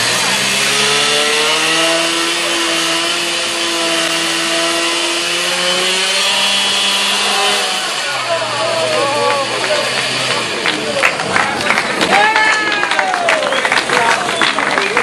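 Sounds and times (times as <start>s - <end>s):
moped engine pulling hard: 0.0s - 15.0s.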